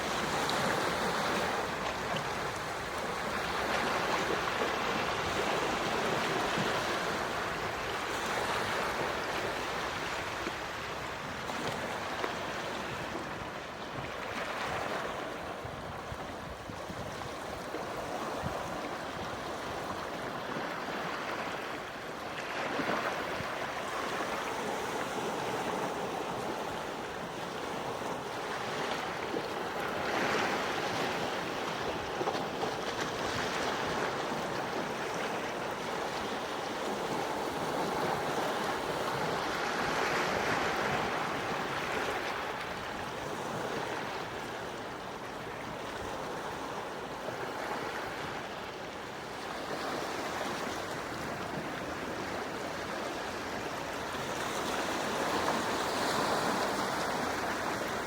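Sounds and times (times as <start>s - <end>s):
ocean waves washing onto shore: 0.0s - 58.0s.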